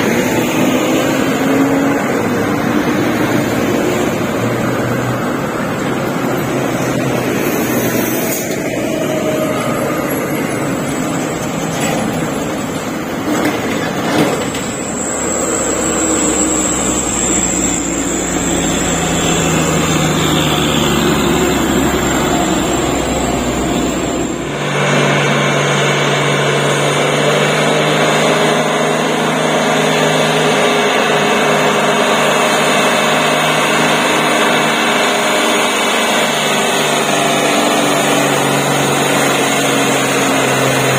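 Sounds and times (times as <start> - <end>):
truck diesel engines labouring uphill: 0.0 - 40.9
truck engine running under load: 0.0 - 40.9.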